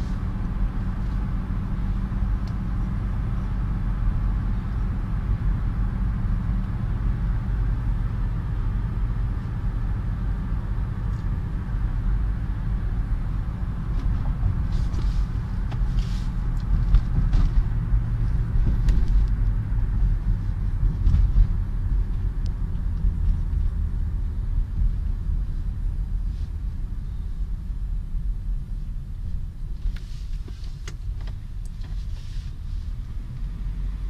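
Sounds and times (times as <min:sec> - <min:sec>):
car engine drone inside cabin: 0:00.0 - 0:34.0
tyre and road noise: 0:00.0 - 0:34.0.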